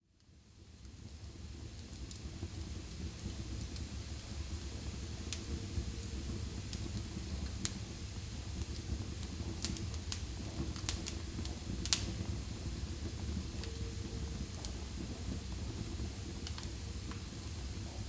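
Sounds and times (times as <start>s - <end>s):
fire crackling and popping: 0.2s - 18.0s
wood fire rushing: 2.0s - 17.8s.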